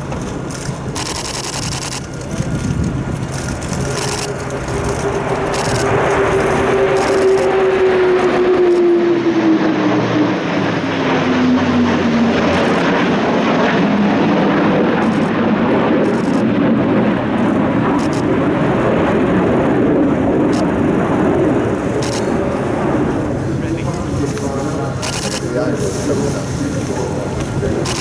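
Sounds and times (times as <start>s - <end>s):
aircraft roar: 0.0s - 28.0s.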